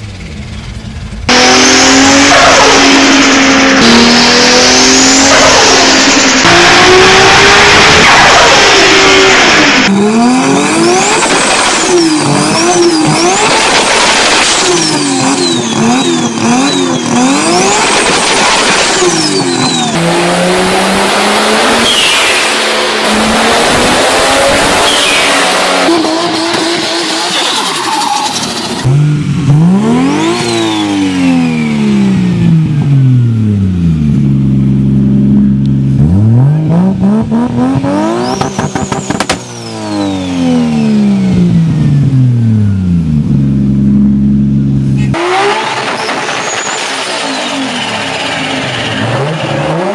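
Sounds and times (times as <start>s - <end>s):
car engines revving: 0.0s - 49.9s.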